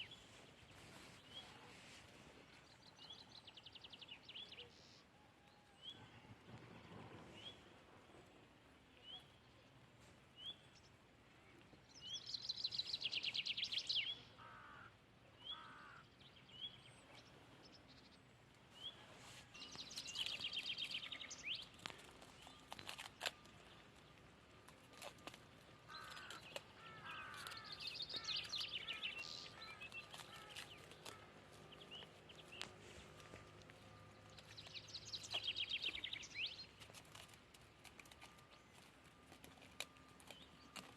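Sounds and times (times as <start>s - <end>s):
songbirds singing: 0.0s - 8.3s, 10.4s - 40.9s.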